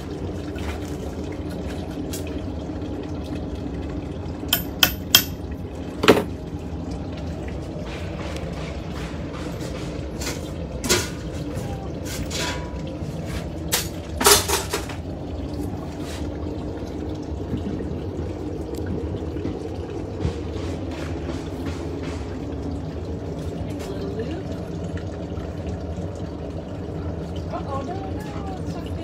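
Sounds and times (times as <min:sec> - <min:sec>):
glass furnace rushing hum: 0:00.0 - 0:29.0.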